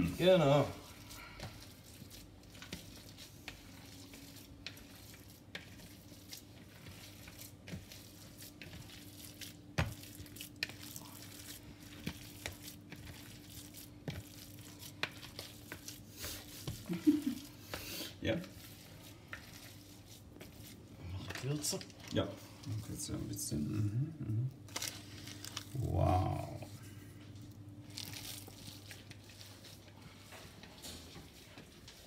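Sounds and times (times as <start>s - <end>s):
hands squelching meat filling: 0.0s - 21.9s, 24.7s - 30.7s.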